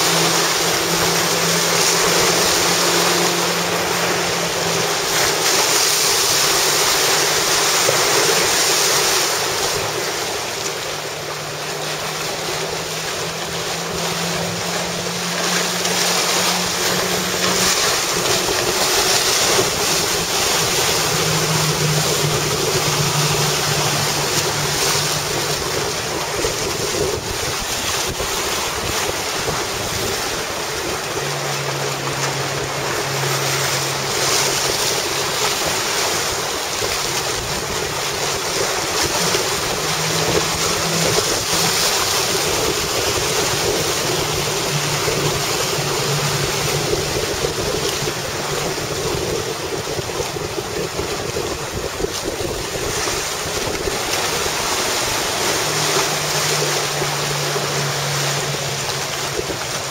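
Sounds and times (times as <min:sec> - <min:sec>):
boat engine humming: 0:00.0 - 0:59.9
water rushing and splashing: 0:00.0 - 0:59.9
wind buffeting microphone: 0:00.0 - 0:59.9.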